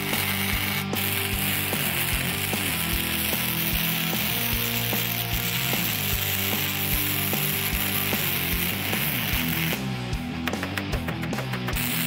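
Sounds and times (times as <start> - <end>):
welder arc crackling: 0.0 - 10.2, 11.5 - 12.0
background music with beat: 0.1 - 12.0.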